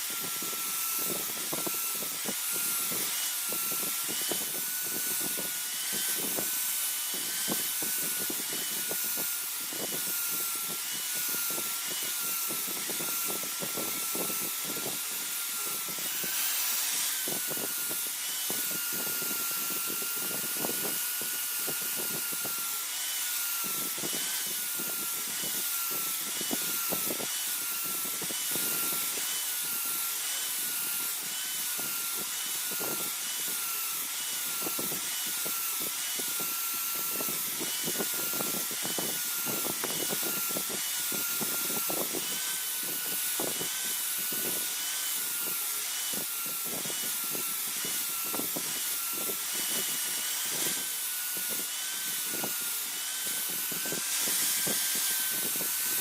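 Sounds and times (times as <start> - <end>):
electric grinder whining: 0.0 - 56.0.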